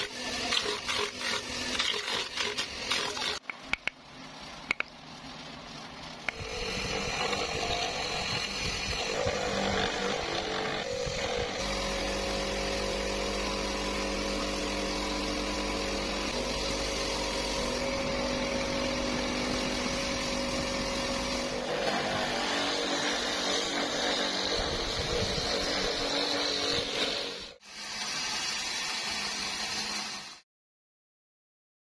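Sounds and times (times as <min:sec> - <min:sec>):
rotary carving tool whining: 0:00.0 - 0:03.9, 0:06.2 - 0:30.4.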